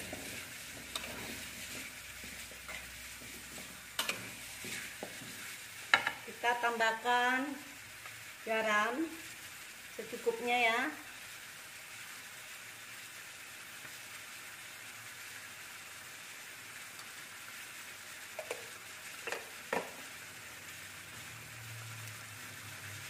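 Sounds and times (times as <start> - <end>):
food frying sizzle: 0.0 - 23.0.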